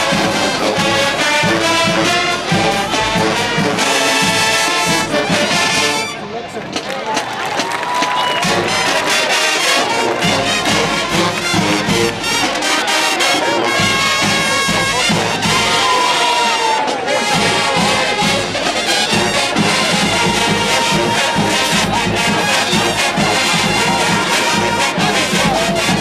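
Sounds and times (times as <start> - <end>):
crowd cheering: 0.0 - 26.0
drumline beat: 0.0 - 26.0
marching band brass: 0.0 - 26.0.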